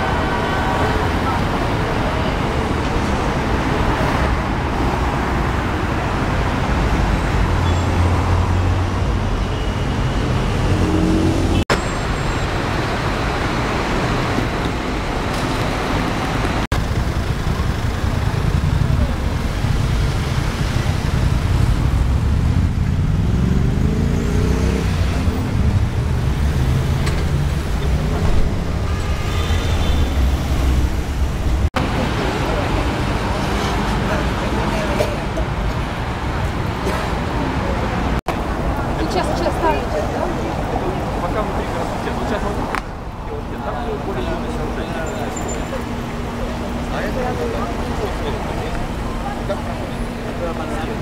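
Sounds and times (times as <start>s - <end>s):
city street traffic: 0.0s - 51.0s
voices of passers-by: 0.0s - 51.0s.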